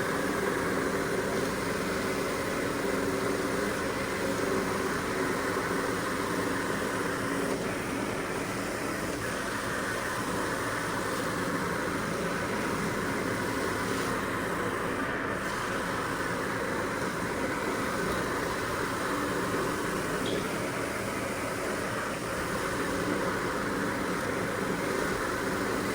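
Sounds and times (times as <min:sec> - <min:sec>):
steady mechanical rushing noise: 0:00.0 - 0:25.9.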